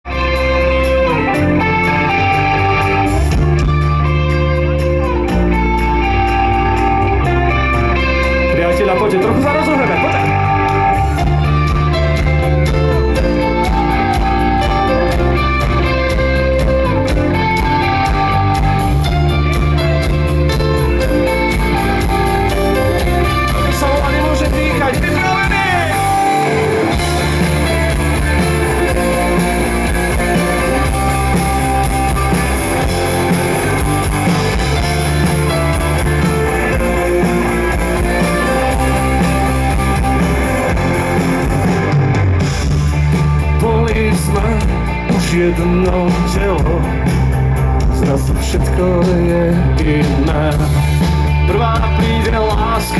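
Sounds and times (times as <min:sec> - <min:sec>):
bass guitar: 0:00.0 - 0:52.9
electric guitars: 0:00.0 - 0:52.9
drum kit: 0:00.1 - 0:52.9.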